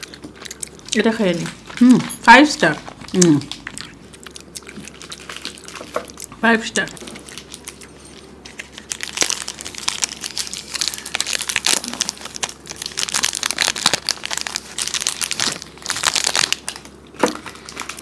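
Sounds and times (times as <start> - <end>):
plastic wrappers crinkling: 0.0 - 18.0.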